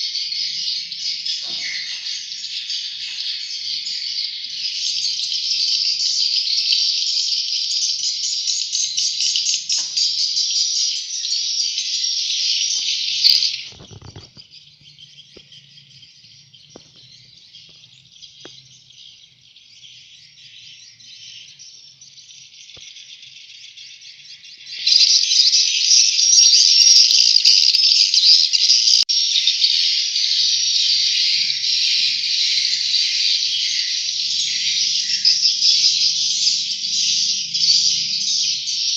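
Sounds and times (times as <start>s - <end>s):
chicks chirping: 0.0s - 38.9s.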